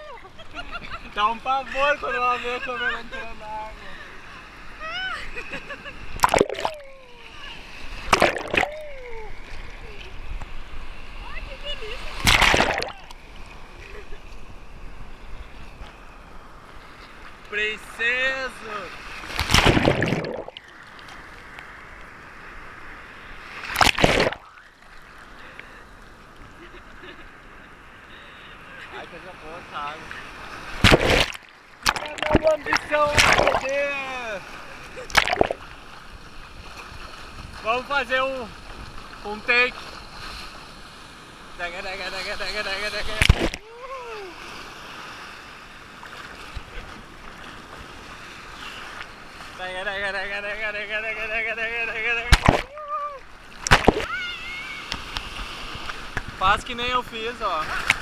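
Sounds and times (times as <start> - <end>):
surf hissing: 0.0 - 47.1, 47.9 - 58.0
water rushing over microphone: 6.0 - 13.8, 14.5 - 25.6, 29.3 - 58.0.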